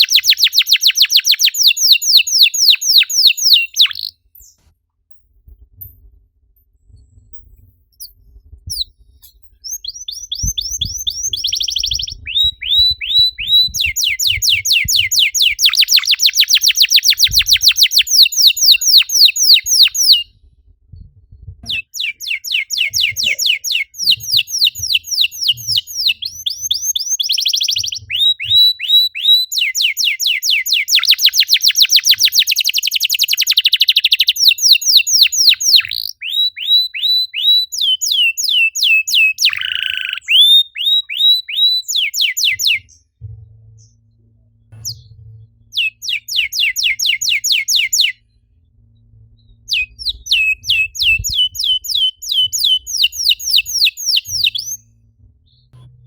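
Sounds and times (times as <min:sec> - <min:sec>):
canary singing: 0:00.0 - 0:04.6, 0:08.7 - 0:20.3, 0:21.6 - 0:43.1, 0:44.8 - 0:48.3, 0:49.4 - 0:55.0.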